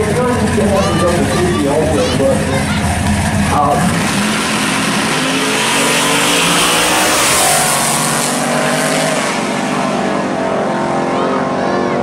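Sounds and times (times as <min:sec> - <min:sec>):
car engines at full throttle: 0:00.0 - 0:12.0.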